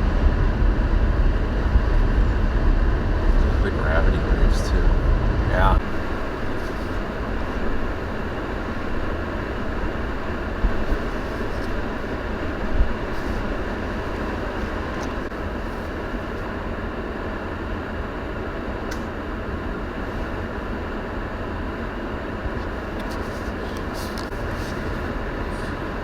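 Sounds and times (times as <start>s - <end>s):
strong wind: 0.0s - 26.0s
vehicle rumbling: 0.0s - 26.0s.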